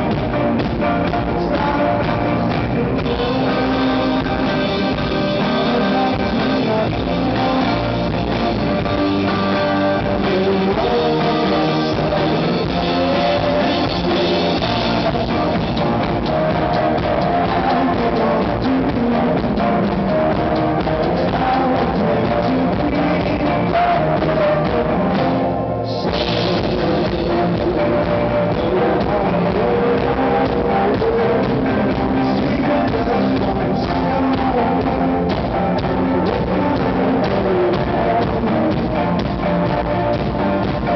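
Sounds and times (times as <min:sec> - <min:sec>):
drum kit: 0:00.0 - 0:40.9
electric guitars: 0:00.0 - 0:40.9
person singing: 0:00.0 - 0:40.9.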